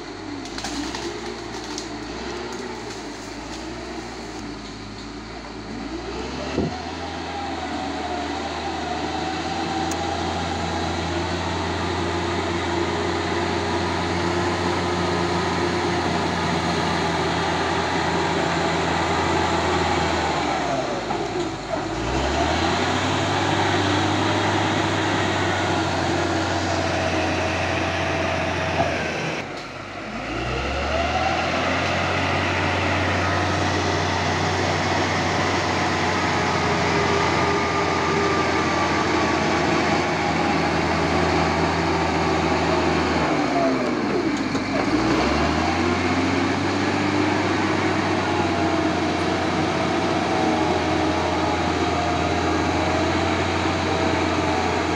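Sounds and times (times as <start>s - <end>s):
bulldozer diesel engine under load: 0.0s - 54.9s.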